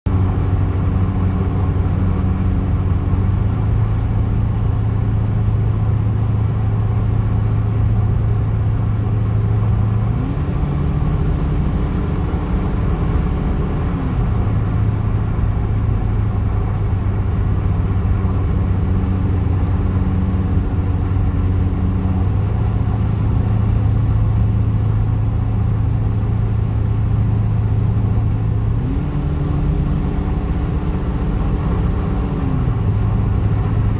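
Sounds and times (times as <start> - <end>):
car engine droning: 0.1 - 33.9.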